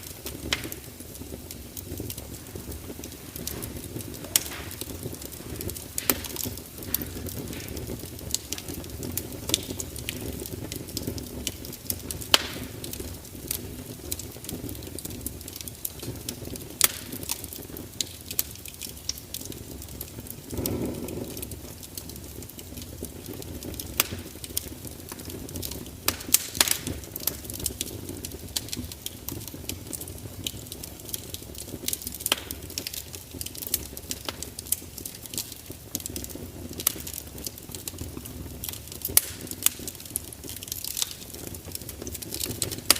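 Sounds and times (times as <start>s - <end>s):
fire crackling and popping: 0.0s - 42.9s
low rumble of flame: 0.0s - 42.9s.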